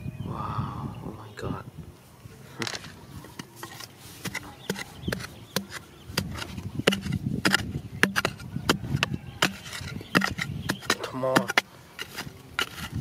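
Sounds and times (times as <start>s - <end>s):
digging tool scraping soil and stones: 2.6s - 13.0s.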